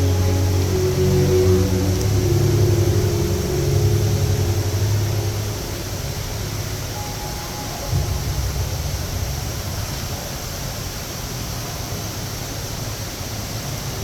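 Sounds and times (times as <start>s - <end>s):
low rumble: 0.0s - 11.5s
indoor waterfall rushing: 0.0s - 14.0s.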